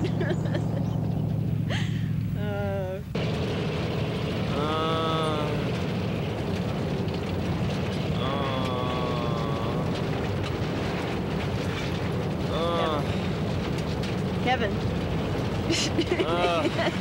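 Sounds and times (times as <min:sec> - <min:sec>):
old car rumbling on dirt track: 0:00.0 - 0:17.0.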